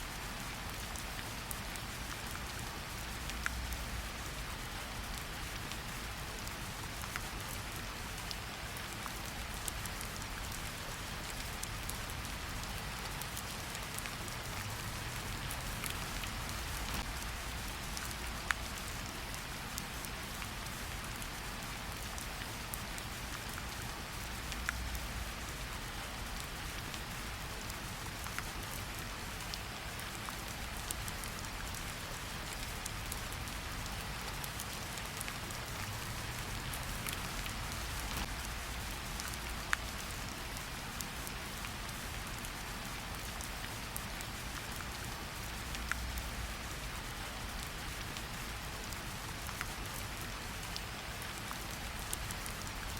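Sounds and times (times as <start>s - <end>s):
steady rain falling: 0.0s - 52.9s
sharp raindrop ticks: 0.7s - 4.0s, 11.2s - 52.9s.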